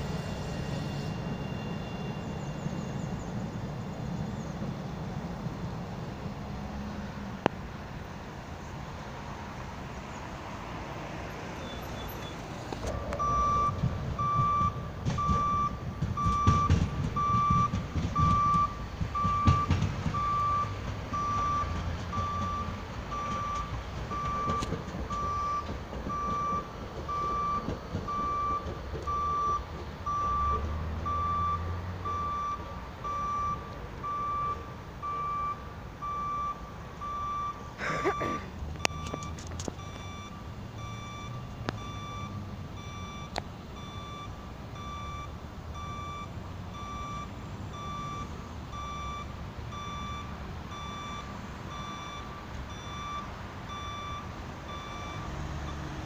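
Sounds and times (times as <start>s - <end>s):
reversing warning beeper: 0.0s - 3.1s, 11.6s - 56.0s.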